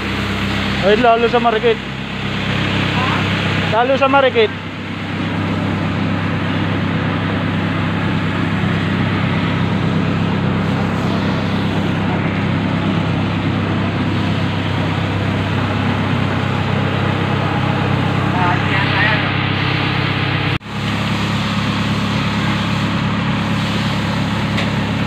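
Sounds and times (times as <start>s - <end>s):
water hissing from fire hose: 0.0s - 19.8s, 20.7s - 25.0s
fire truck engine droning: 0.0s - 25.0s.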